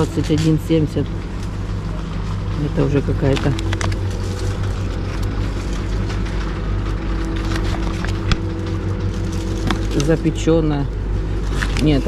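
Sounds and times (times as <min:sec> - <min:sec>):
low mechanical hum of chillers: 0:00.0 - 0:12.0.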